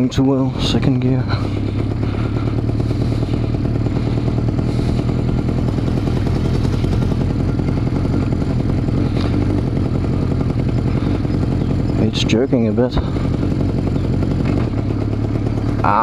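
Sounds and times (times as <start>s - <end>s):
motorcycle engine lugging at low revs: 0.0s - 16.0s.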